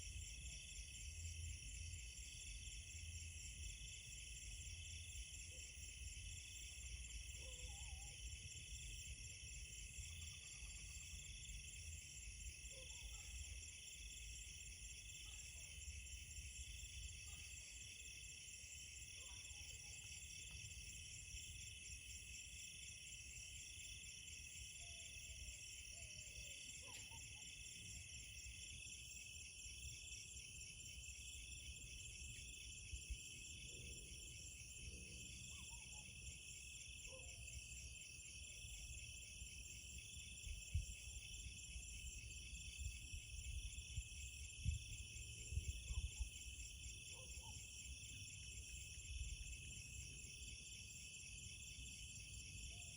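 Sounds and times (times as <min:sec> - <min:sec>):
crickets trilling: 0:00.0 - 0:52.9
faint short insect calls: 0:00.0 - 0:52.9.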